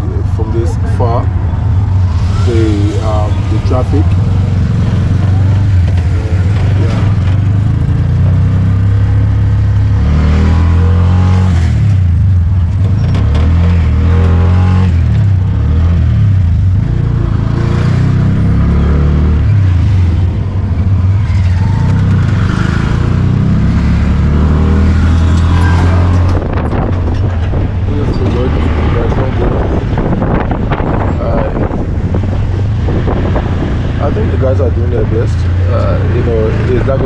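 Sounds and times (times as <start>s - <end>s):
traffic passing: 0.0s - 37.0s.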